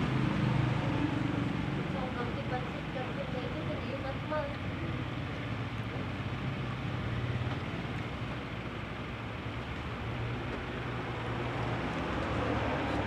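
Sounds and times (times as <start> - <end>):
low engine hum: 0.0 - 13.0
street background noise: 0.0 - 13.0.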